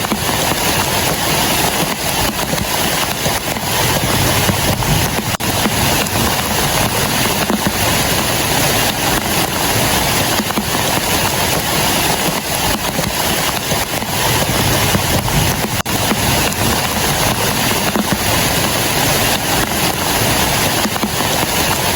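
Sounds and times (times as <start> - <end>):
heavy rain on plastic tarp: 0.0 - 21.9.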